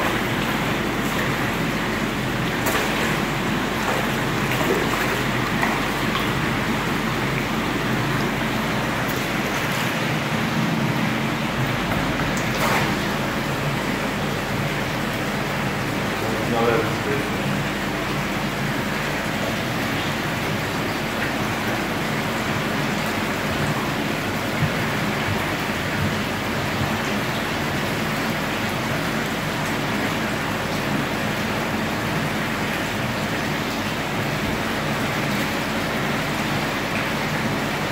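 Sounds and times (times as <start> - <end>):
water splashing in tank: 0.0 - 37.9.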